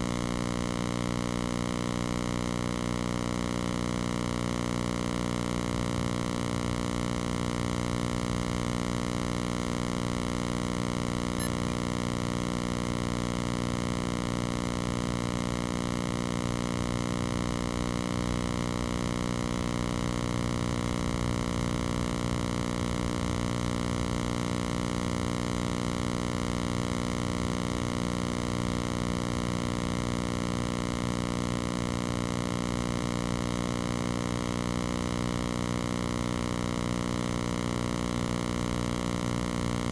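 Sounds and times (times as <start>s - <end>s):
steady hum with overtones: 0.0s - 39.9s.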